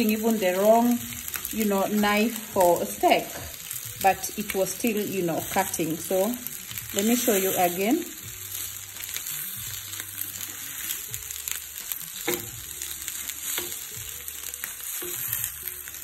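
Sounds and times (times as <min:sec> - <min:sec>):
meat sizzling in a grill pan: 0:00.0 - 0:16.0.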